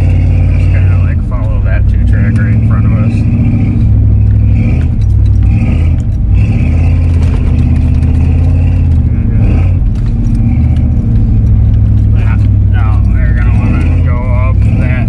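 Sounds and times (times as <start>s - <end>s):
truck engine drone from cab: 0.0s - 15.0s.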